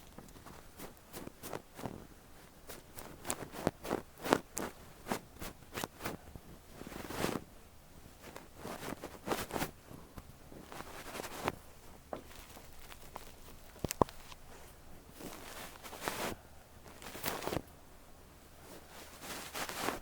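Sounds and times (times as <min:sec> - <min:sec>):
soft rustling on microphone: 0:00.0 - 0:20.0.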